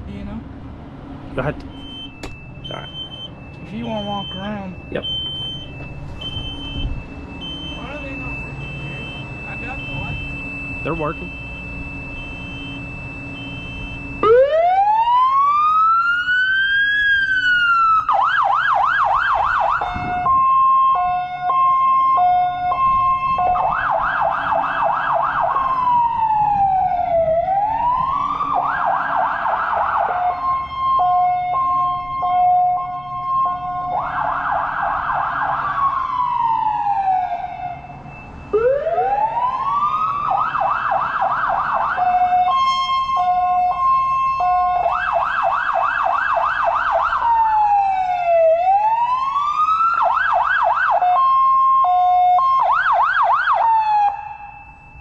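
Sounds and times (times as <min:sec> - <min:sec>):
fire engine siren: 0:00.8 - 0:55.0.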